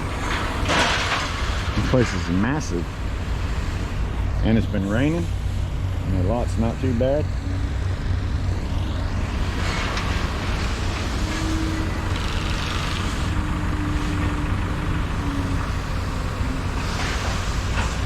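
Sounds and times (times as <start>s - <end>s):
vehicle engine low rumble: 0.0s - 18.0s.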